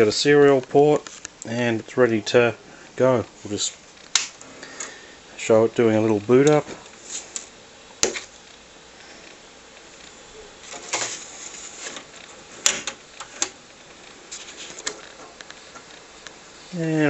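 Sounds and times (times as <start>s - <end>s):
floppy drive clicks and rattles: 0.0s - 5.0s, 5.8s - 16.5s.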